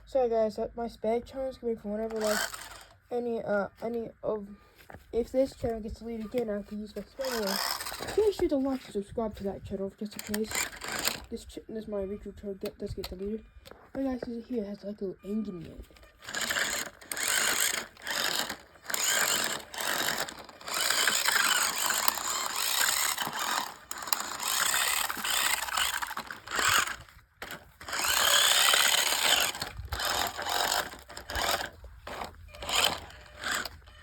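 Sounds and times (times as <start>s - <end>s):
toy car motor and gears whirring: 1.8s - 4.0s, 4.8s - 14.8s, 15.6s - 34.0s.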